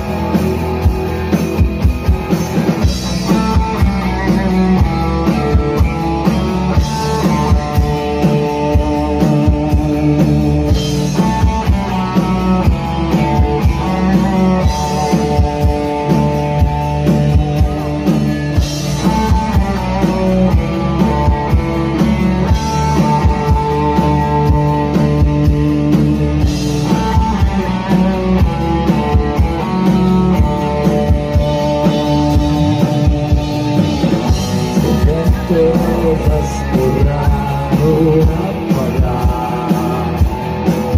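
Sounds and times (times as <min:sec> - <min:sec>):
distorted electric guitar: 0:00.0 - 0:40.9
pounding drum kit: 0:00.0 - 0:40.9.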